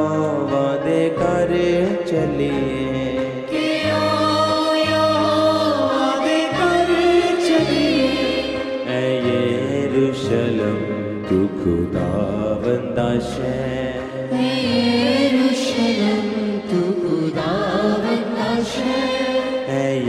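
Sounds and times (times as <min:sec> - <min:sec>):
wordless choir-like melody: 0:00.0 - 0:20.0.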